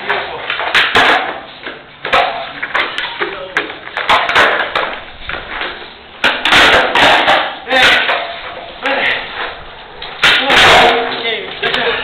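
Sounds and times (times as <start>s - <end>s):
skateboard hitting the ground: 0.0s - 12.0s.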